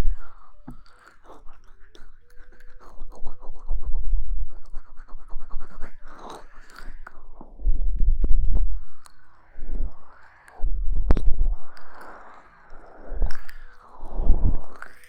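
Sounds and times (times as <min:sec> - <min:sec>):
rustling and scratching at microphone: 0:00.0 - 0:15.0.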